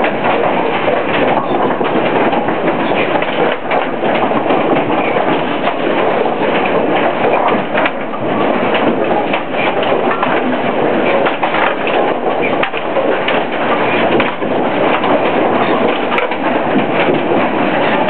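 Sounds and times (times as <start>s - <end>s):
mechanical clatter of pinspotter: 0.0s - 18.0s.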